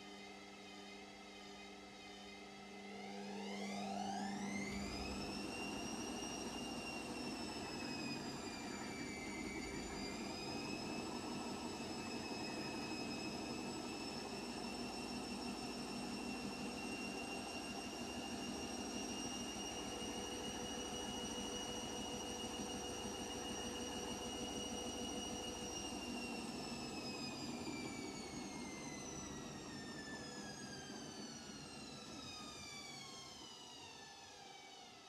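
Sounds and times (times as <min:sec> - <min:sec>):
washing machine motor whine: 0:00.0 - 0:34.9.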